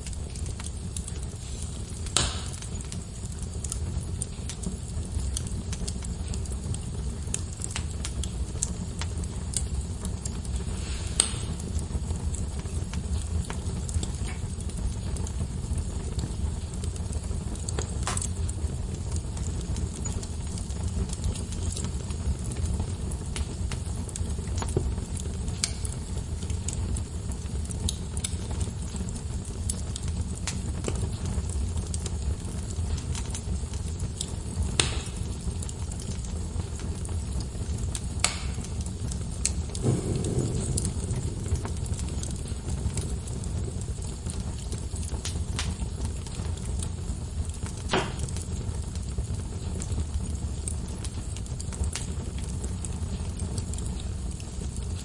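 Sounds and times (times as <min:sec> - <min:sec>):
logs crackling in fireplace: 0:00.0 - 0:55.0.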